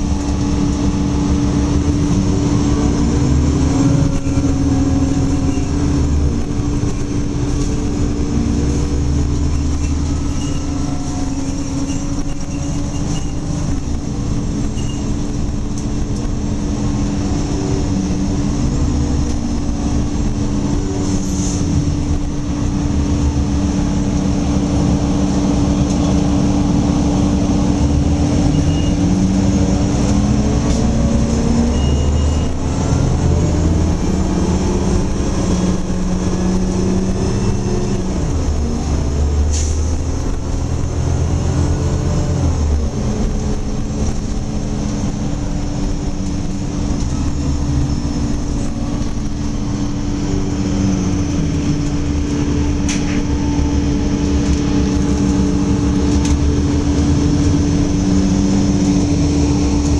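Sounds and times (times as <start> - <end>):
bus engine running: 0.0 - 59.9
road rumble: 0.0 - 59.9.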